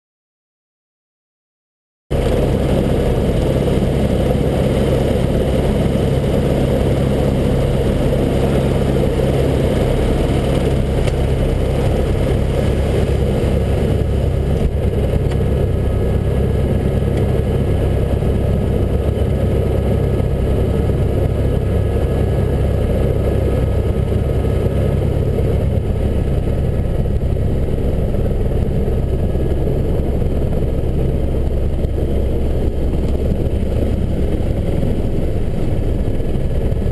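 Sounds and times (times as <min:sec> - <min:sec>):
helicopter engine and rotor drone: 0:02.1 - 0:36.9.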